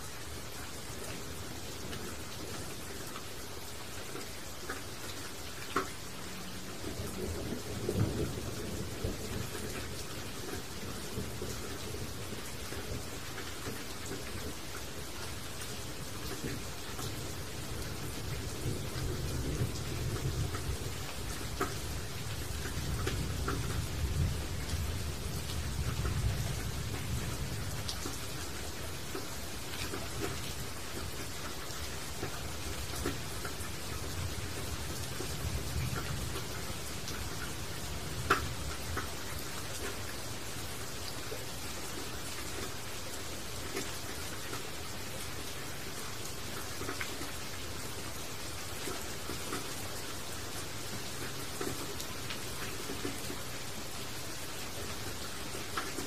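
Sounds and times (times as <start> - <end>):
rain pattering on leaves: 0.0 - 56.0.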